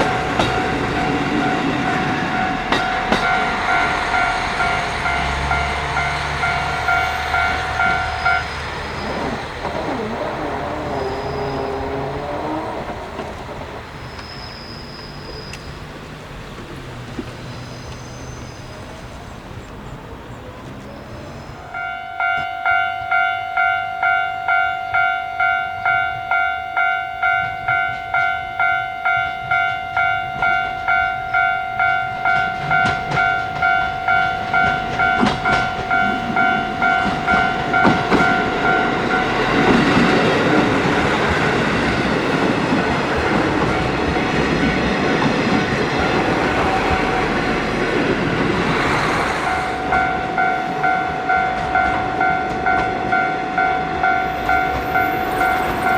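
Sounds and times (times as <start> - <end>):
level crossing warning bell: 0.0 - 13.4, 21.1 - 48.5, 49.5 - 55.9
rail joint clicks: 0.0 - 55.9
train passing: 0.0 - 55.9.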